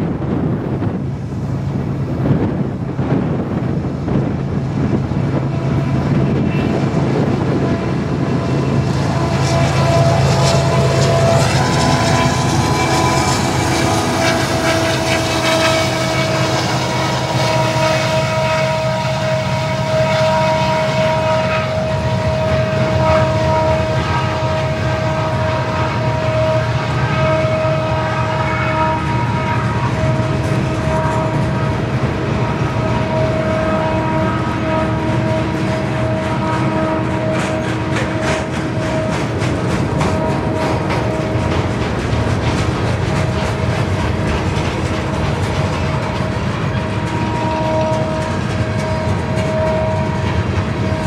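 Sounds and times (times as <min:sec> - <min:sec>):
diesel locomotive rumbling: 0:00.0 - 0:51.0
train wheels on rail: 0:00.0 - 0:51.0.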